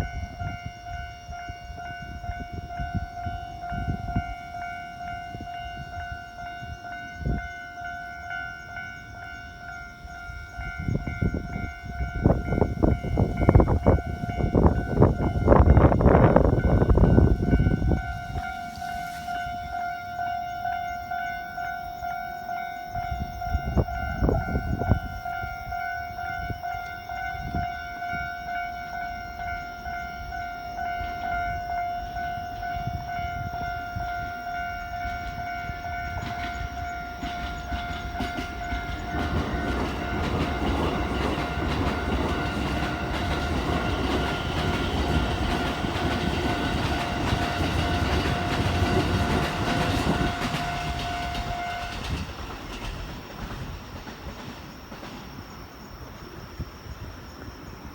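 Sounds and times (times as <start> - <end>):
train rumbling past: 0.0 - 57.9.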